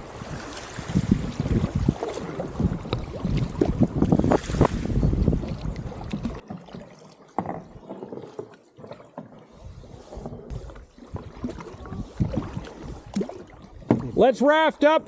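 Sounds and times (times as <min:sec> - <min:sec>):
canoe paddles pulling through water: 0:00.0 - 0:15.0.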